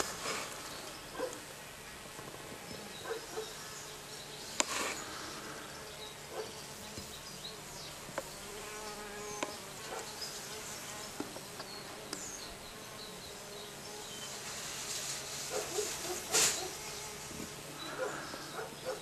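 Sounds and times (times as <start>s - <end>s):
insect buzzing: 0.0s - 19.0s.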